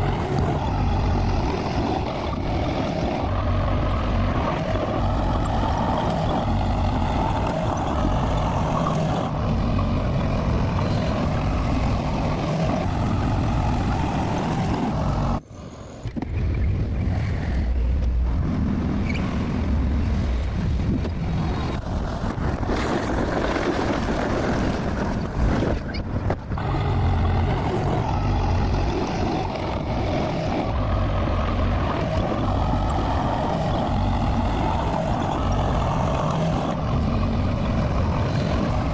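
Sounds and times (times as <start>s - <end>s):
heavy diesel engine rumbling: 0.0s - 15.4s, 16.4s - 38.9s.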